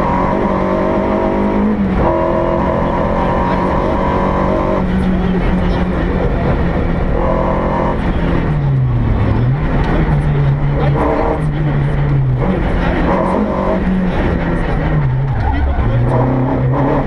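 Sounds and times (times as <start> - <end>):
rally car engine from inside: 0.0 - 17.0.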